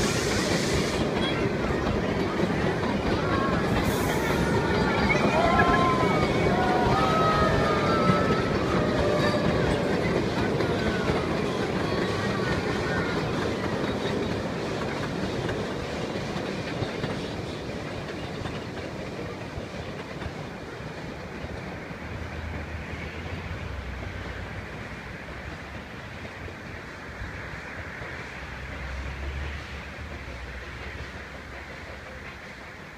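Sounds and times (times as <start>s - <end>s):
steam train running: 0.0s - 32.9s
wheels clicking over rail joints: 0.0s - 32.9s.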